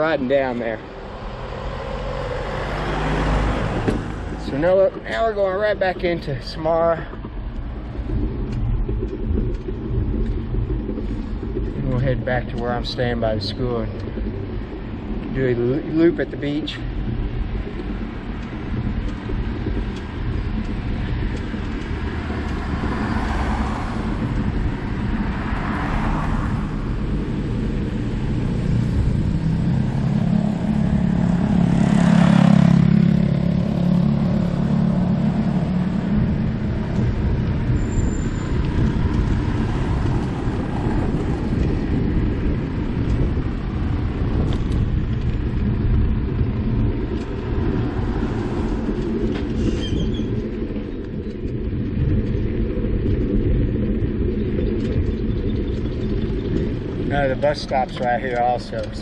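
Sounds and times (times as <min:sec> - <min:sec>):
motor vehicle passing: 0:00.0 - 0:59.0
wind and road noise: 0:00.0 - 0:59.0.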